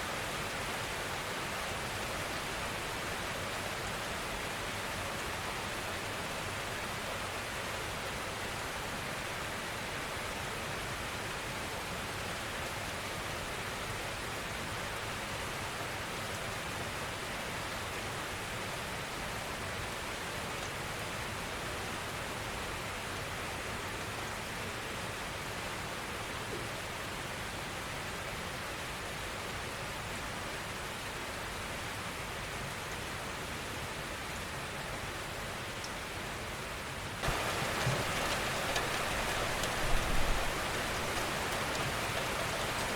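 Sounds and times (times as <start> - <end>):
gentle rain falling: 0.0 - 42.9.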